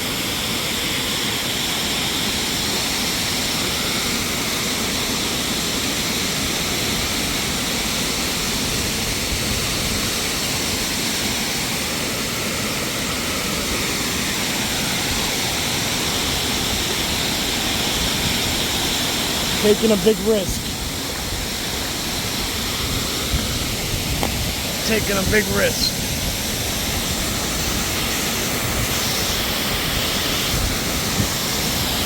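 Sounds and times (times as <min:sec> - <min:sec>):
waterfall pouring: 0:00.0 - 0:32.0.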